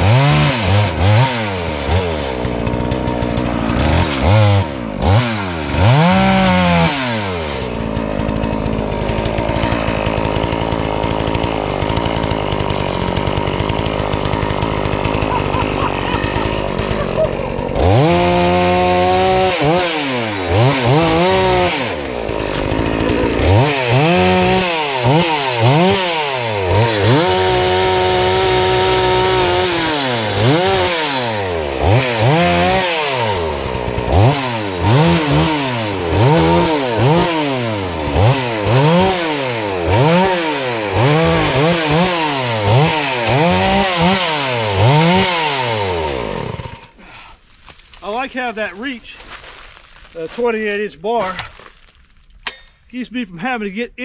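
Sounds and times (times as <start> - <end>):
chainsaw revving while cutting: 0.0 - 47.2.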